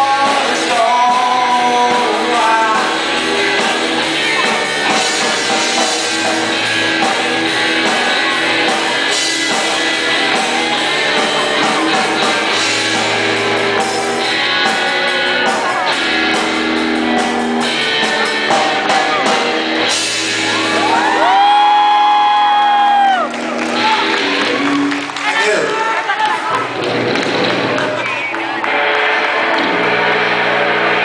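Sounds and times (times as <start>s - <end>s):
live rock band with singing: 0.0s - 31.0s.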